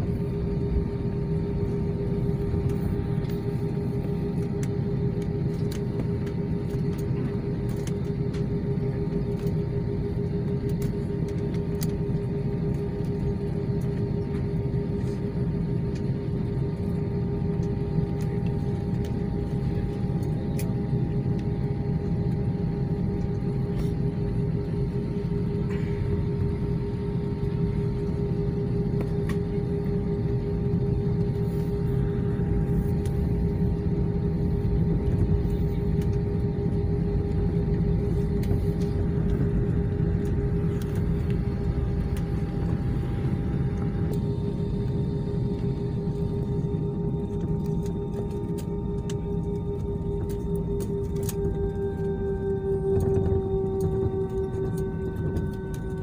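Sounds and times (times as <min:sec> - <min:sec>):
jet engine cabin hum: 0:00.0 - 0:56.0.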